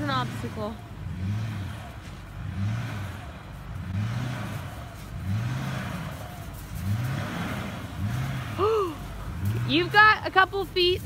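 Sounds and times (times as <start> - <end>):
pickup truck engine under load: 0.0 - 11.0.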